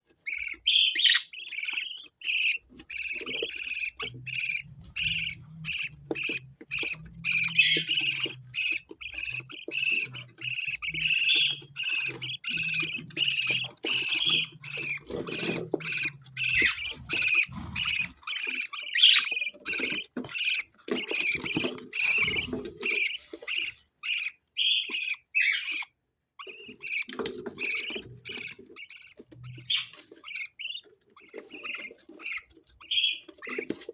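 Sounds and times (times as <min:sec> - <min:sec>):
parrots chirping and squawking: 0:00.0 - 0:33.9.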